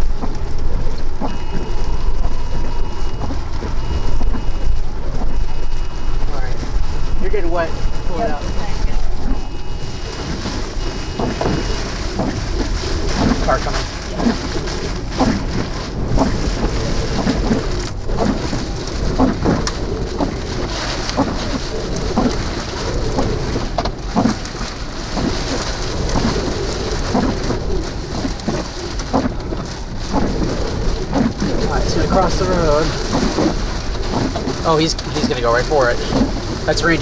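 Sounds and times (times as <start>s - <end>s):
heavy rain hitting vehicle: 0.0s - 37.0s
low thunder rumble: 0.0s - 37.0s.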